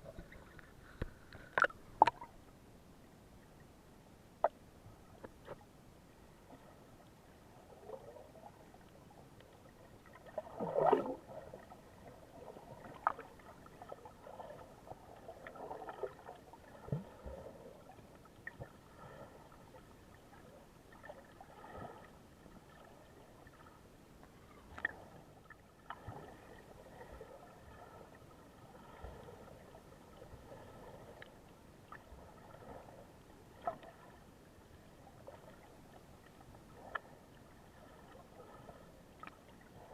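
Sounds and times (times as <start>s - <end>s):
sea water lapping and splashing: 6.3s - 39.9s.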